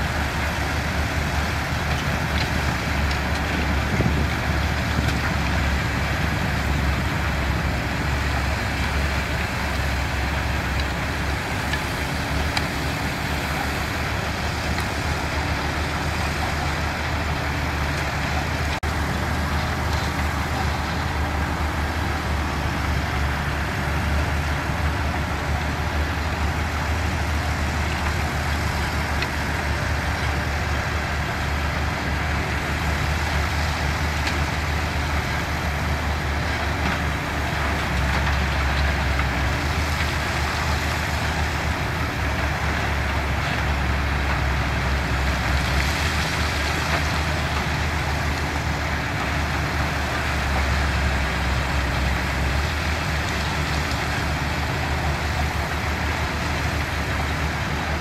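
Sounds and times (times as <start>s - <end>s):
construction machinery engines rumbling: 0.0s - 58.0s.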